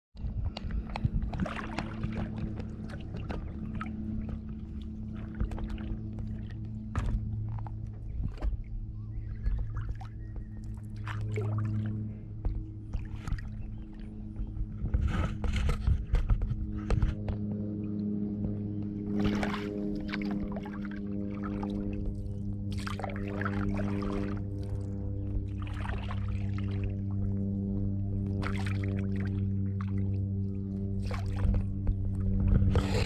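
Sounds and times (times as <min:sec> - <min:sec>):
steady low hum: 0:00.2 - 0:33.0
water lapping against paddleboard: 0:00.2 - 0:33.0.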